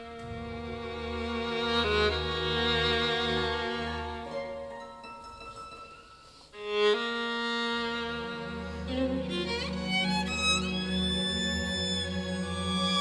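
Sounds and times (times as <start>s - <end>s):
two solo violins: 0.0s - 4.8s, 6.3s - 13.0s
string orchestra: 0.0s - 13.0s.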